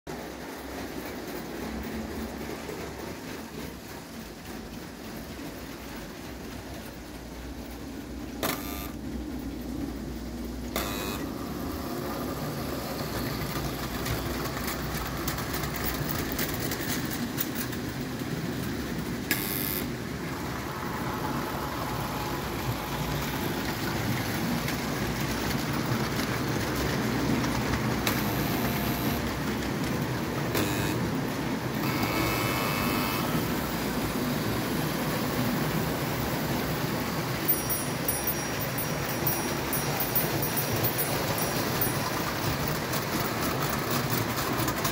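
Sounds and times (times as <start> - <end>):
model train running on track: 0.1 - 44.9.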